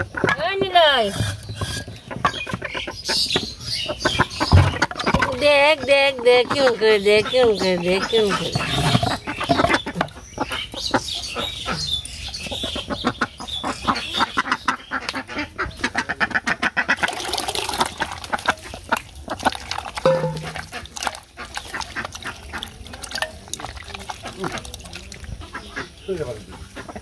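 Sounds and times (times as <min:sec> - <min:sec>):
ducks quacking: 0:00.0 - 0:17.4, 0:18.0 - 0:23.0, 0:23.7 - 0:27.0.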